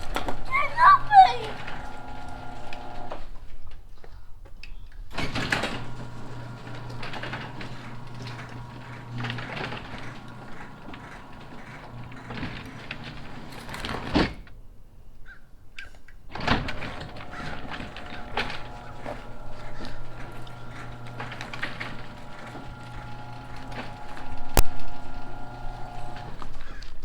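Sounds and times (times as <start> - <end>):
garage door clunk: 0.0 - 3.2, 5.1 - 14.6, 16.3 - 27.0
garage door opener motor hum: 0.0 - 3.4, 5.1 - 14.5, 16.3 - 27.0.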